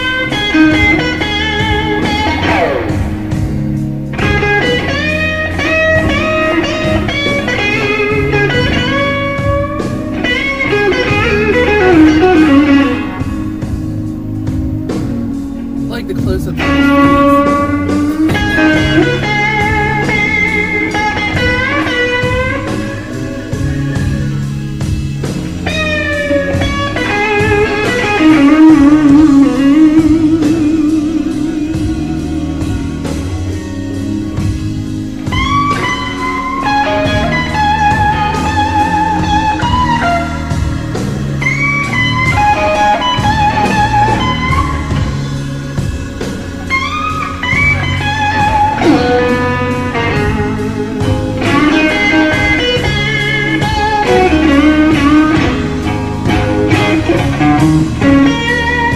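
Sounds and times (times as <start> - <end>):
bass guitar: 0.0 - 58.9
drums: 0.0 - 58.9
electric blues guitar lead: 0.0 - 58.9.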